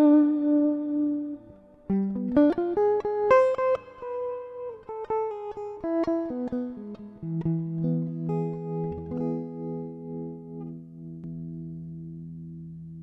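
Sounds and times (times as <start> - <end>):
electric guitar notes: 0.0 - 13.0.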